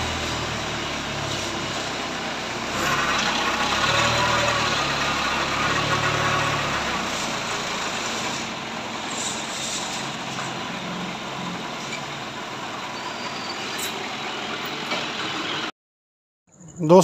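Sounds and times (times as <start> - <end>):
forklift diesel engine running: 0.0 - 15.7.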